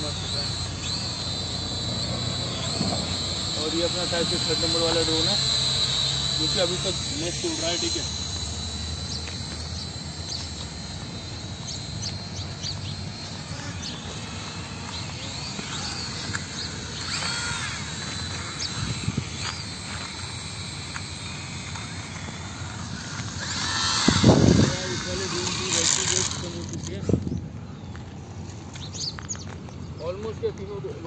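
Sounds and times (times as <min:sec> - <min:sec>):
toy drone propellers whining: 0:00.0 - 0:31.0.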